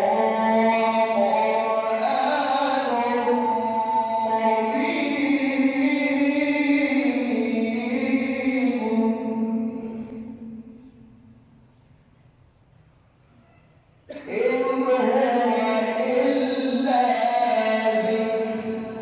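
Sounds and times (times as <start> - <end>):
man chanting melodic recitation: 0.0 - 10.7, 14.2 - 19.0.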